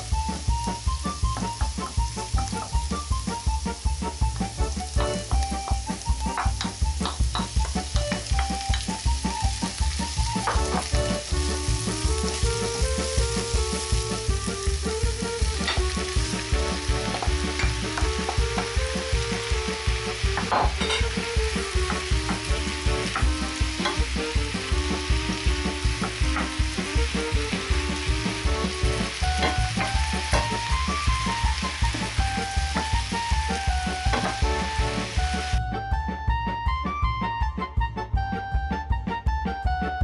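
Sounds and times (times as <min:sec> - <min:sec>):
vegetables sizzling in a frying pan: 0:00.0 - 0:35.6
background music with a beat: 0:00.0 - 0:40.0.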